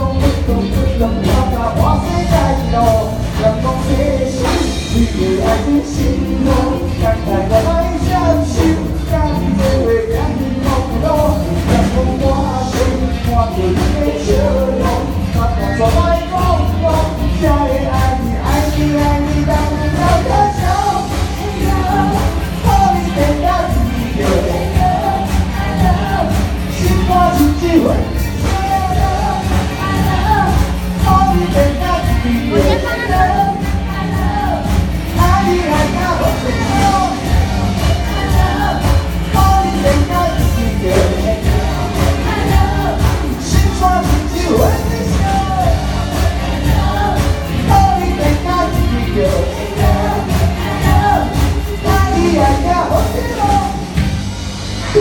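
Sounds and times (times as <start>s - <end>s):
live pop band with singer: 0.0s - 55.0s.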